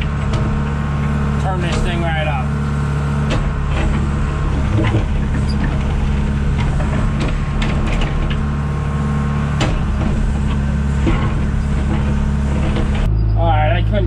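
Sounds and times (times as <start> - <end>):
machine knocks and clanks: 0.0 - 13.1
backhoe diesel engine running: 0.0 - 14.0.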